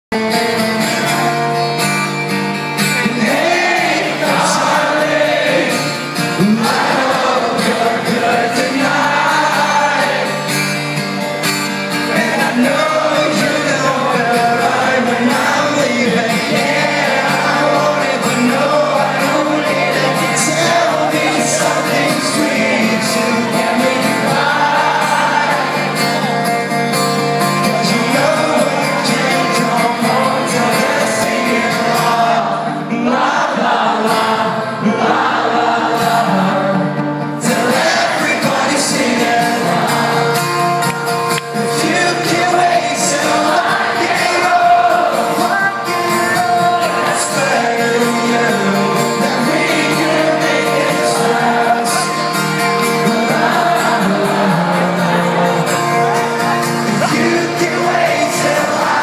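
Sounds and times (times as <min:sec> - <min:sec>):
strummed acoustic guitars: 0:00.1 - 0:59.0
crowd singing along: 0:00.2 - 0:59.0
man singing lead vocal: 0:02.8 - 0:10.9, 0:11.8 - 0:40.8, 0:41.4 - 0:59.0.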